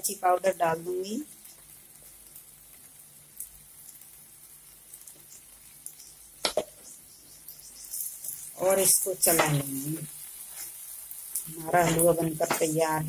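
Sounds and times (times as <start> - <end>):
food sizzling in an iron pan: 0.0 - 13.0.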